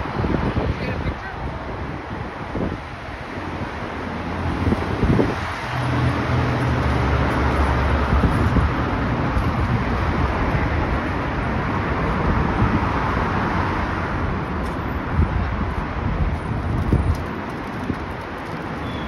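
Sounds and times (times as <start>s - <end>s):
passing cars rushing: 0.0s - 19.0s.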